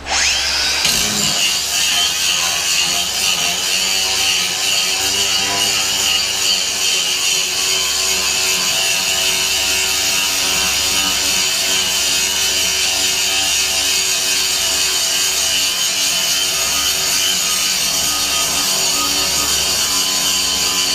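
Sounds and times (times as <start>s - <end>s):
angle grinder grinding rust off steel: 0.0s - 20.9s.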